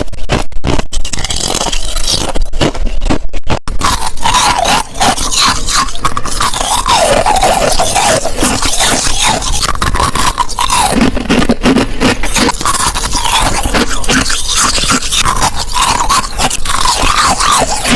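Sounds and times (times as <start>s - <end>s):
ice crunching being chewed: 0.3s - 17.9s.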